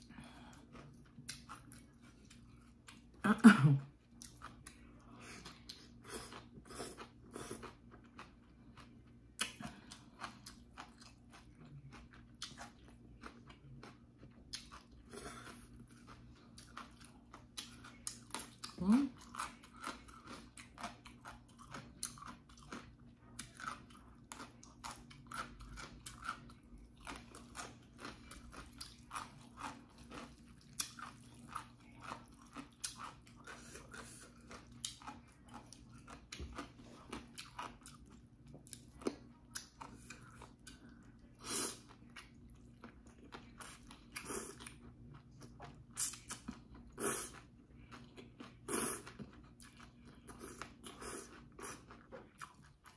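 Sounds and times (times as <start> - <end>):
chewing and crunching food: 0.0 - 52.9.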